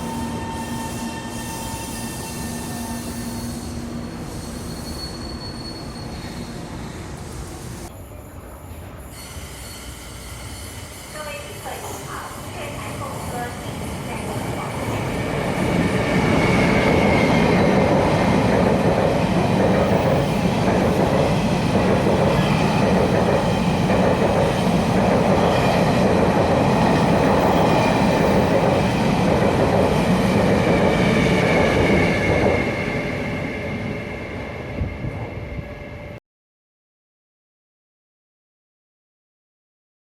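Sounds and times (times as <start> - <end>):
train wheels rushing on rail: 0.0 - 36.2.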